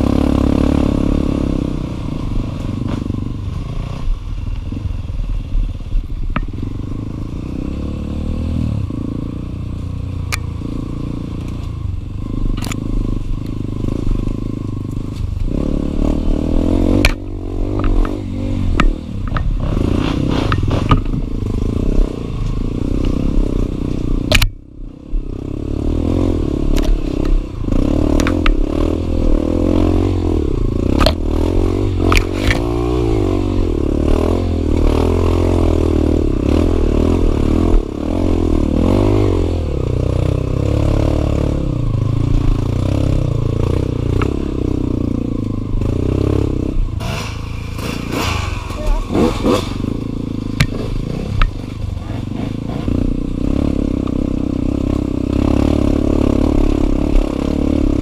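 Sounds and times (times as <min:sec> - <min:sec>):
dirt bike engine revving: 0:00.0 - 0:04.2, 0:06.6 - 0:10.0, 0:12.2 - 0:24.4, 0:25.2 - 0:58.0.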